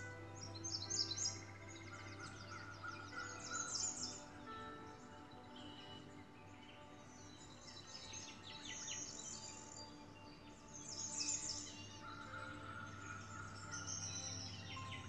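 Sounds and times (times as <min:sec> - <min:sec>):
bird chirps: 0:00.0 - 0:15.0
soft background music: 0:00.0 - 0:15.0.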